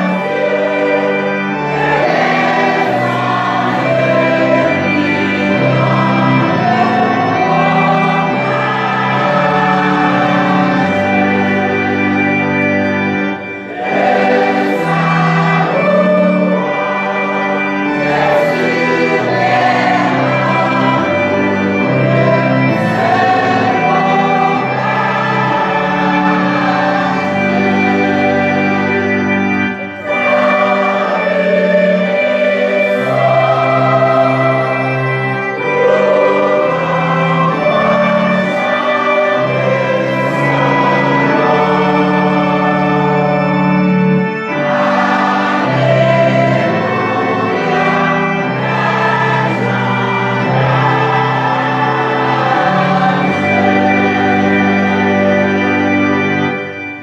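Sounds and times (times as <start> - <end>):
church choir singing: 0.0 - 57.0
keyboard holding chords: 0.0 - 57.0.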